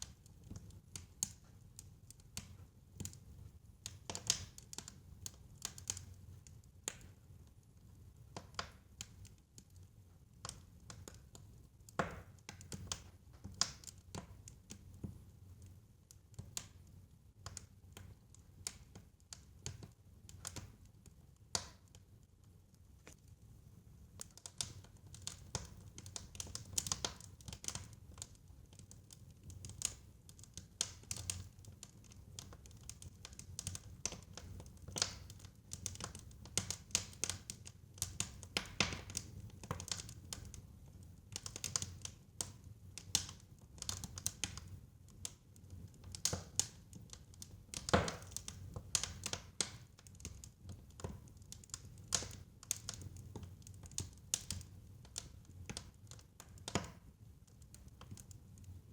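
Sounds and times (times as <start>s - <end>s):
fire crackling in a fireplace: 0.0s - 58.9s.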